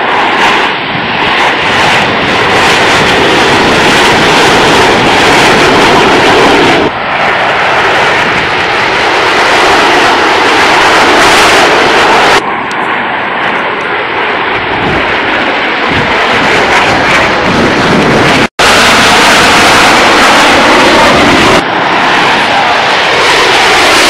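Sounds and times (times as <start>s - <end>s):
jets flying overhead: 0.0s - 24.0s.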